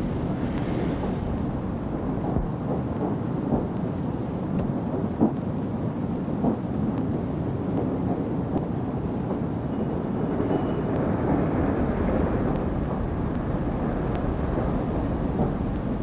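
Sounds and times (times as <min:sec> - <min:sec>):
steam locomotive rumbling: 0:00.0 - 0:05.3, 0:07.3 - 0:16.0.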